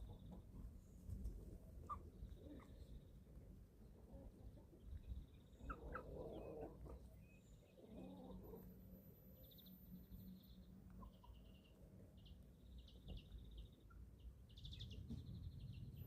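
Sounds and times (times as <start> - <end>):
young chickens peeping: 0.0 - 8.7, 10.3 - 16.0.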